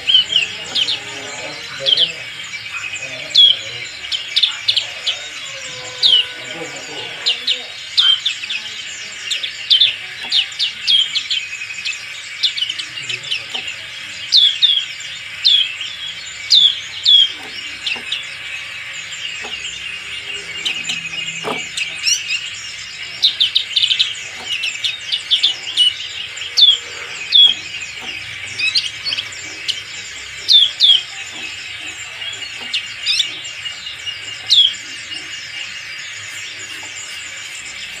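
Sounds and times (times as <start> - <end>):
bird chirping: 0.0 - 38.0.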